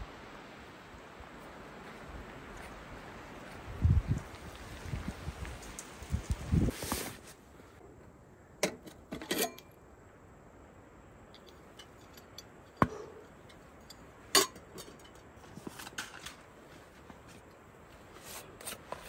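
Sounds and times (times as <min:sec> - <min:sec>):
rustle: 0:00.0 - 0:19.0.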